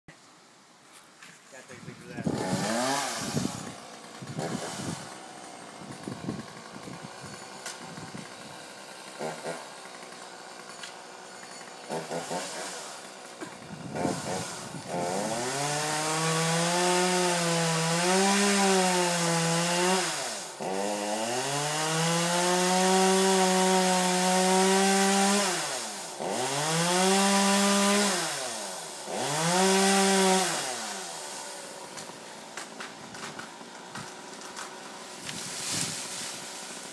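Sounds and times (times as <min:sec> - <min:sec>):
chainsaw revving: 0:02.0 - 0:36.9.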